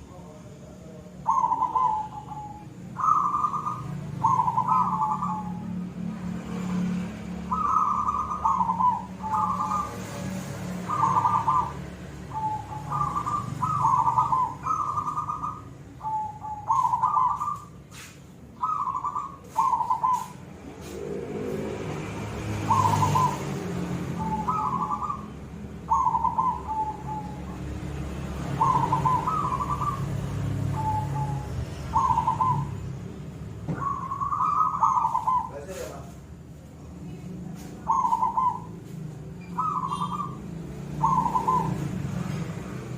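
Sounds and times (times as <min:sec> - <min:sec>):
dove cooing: 0:00.2 - 0:06.1, 0:07.2 - 0:21.7, 0:22.3 - 0:35.9, 0:37.2 - 0:42.9.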